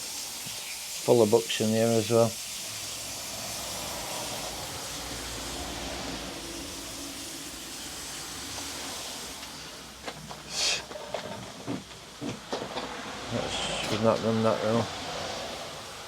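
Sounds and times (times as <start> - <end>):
water hissing from a pipe: 0.0 - 16.0.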